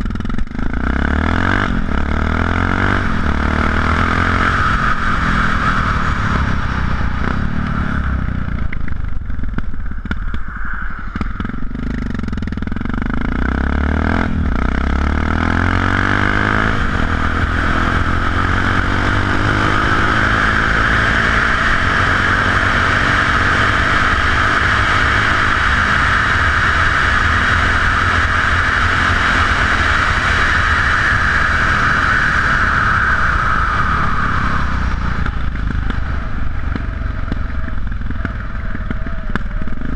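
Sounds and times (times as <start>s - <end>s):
motorcycle engine running: 0.0s - 39.9s
wind rush: 1.5s - 13.2s, 16.5s - 38.2s.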